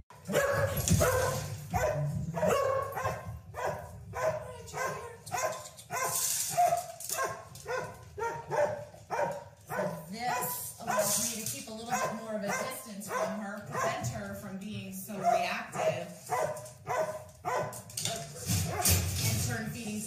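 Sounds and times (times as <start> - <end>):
dog barking: 0.1 - 11.3, 11.9 - 14.1, 15.2 - 17.9, 18.6 - 19.1.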